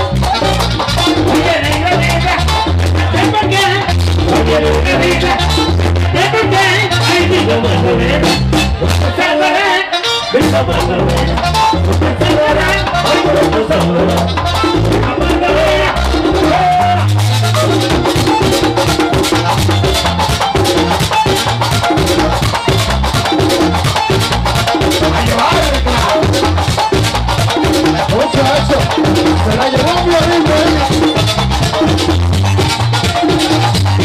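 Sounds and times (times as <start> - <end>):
bass: 0.0 - 34.0
guitars: 0.0 - 34.0.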